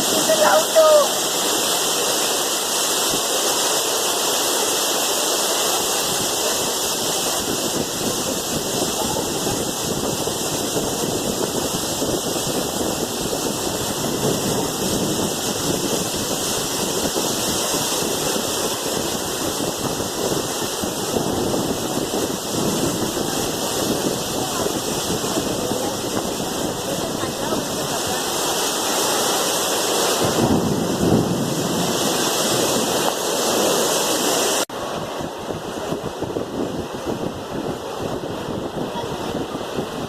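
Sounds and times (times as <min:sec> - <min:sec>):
heavy rain and hail pouring: 0:00.0 - 0:40.0.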